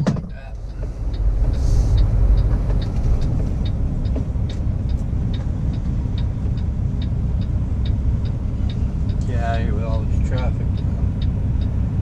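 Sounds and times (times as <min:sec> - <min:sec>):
truck diesel engine rumble: 0:00.0 - 0:12.0
light ticking: 0:00.3 - 0:12.0.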